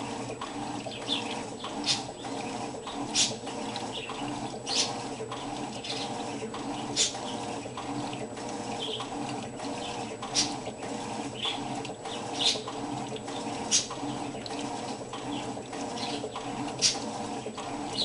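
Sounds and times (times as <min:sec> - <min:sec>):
washing machine motor hum: 0:00.0 - 0:18.0
water sloshing in drum: 0:00.0 - 0:18.0.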